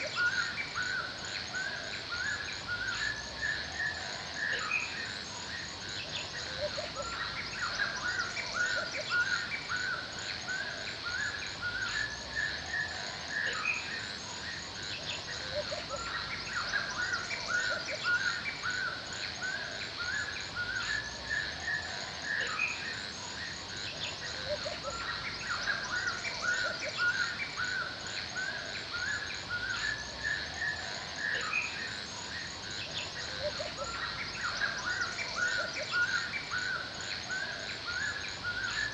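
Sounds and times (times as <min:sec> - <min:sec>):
birds chirping: 0:00.0 - 0:38.9
steady high hiss: 0:00.0 - 0:38.9
very high continuous chirps: 0:00.0 - 0:38.9.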